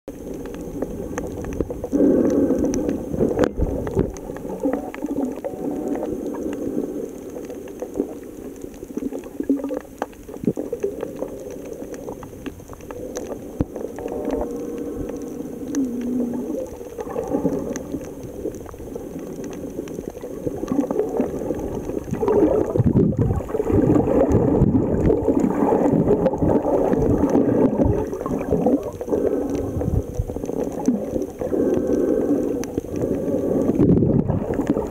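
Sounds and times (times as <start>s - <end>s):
muffled underwater gurgling: 0.1s - 34.9s.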